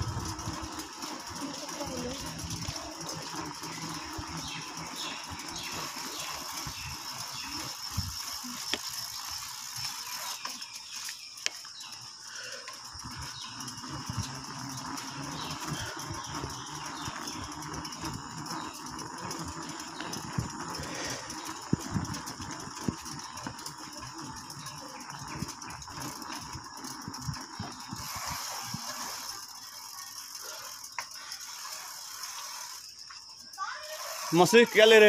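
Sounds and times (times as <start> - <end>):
bicycle rattling on dirt lane: 0.0 - 35.0.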